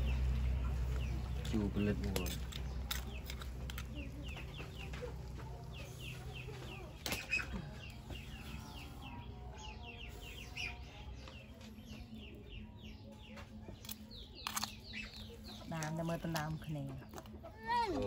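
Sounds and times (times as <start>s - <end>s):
chickens peeping and clucking: 0.0s - 18.0s.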